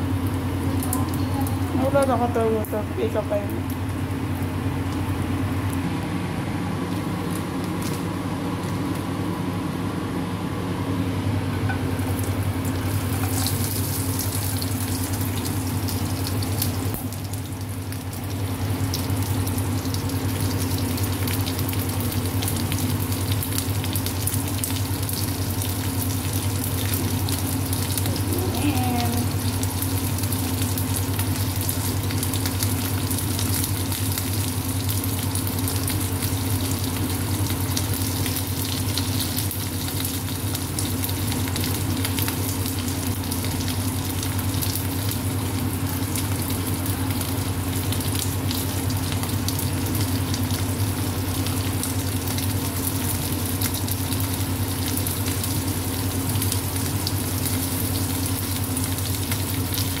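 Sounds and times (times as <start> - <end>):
steady low hum: 0.0 - 60.0
fish sizzling in hot oil: 11.9 - 60.0.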